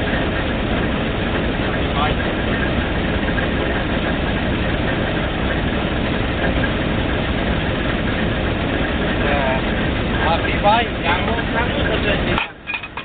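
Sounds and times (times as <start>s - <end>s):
drilling rig engine running: 0.0s - 13.0s.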